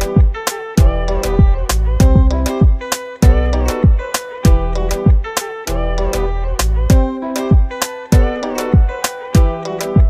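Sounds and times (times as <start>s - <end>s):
pitched melody: 0.0s - 10.0s
deep kick drum: 0.1s - 5.3s, 6.7s - 10.0s.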